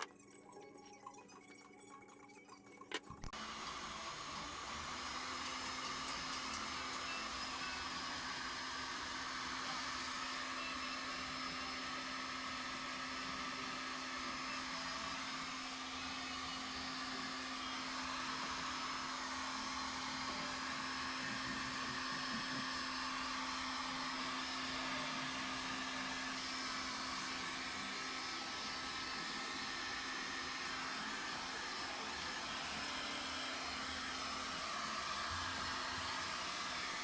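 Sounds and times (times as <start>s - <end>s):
electric blower motor running: 3.4s - 37.0s.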